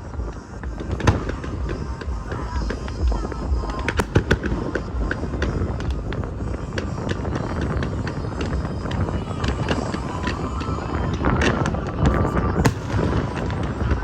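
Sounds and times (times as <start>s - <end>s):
fireworks cracks and pops: 0.0s - 14.0s
loud fireworks bangs: 0.0s - 14.0s.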